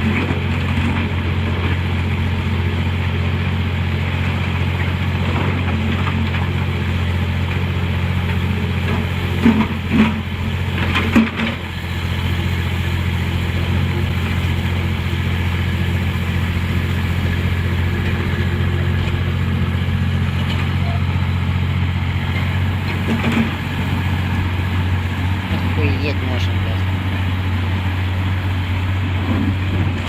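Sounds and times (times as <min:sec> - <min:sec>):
heavy machinery engine running: 0:00.0 - 0:30.0.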